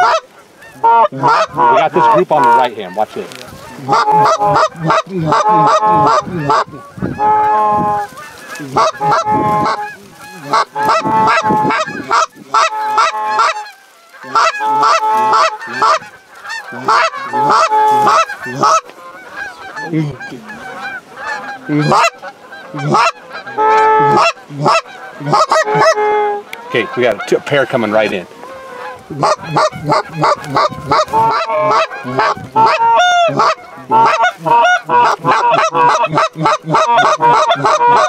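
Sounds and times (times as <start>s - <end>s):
goose call honks and clucks: 0.0s - 38.0s.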